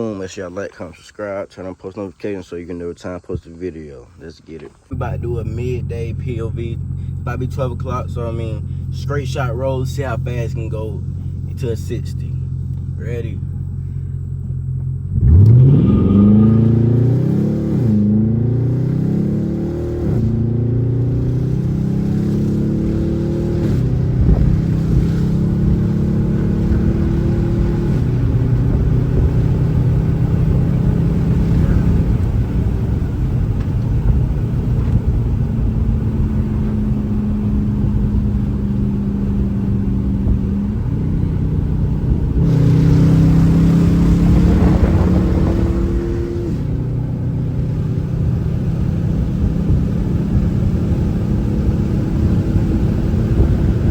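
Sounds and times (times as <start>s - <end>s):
loud car engine accelerating: 4.9s - 53.9s.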